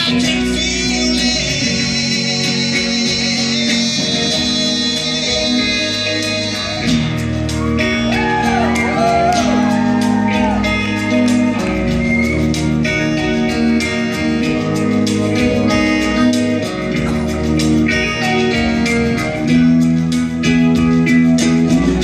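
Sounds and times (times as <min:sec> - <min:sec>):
lead guitar bending notes: 0:00.0 - 0:22.0
live rock guitars: 0:00.0 - 0:22.0.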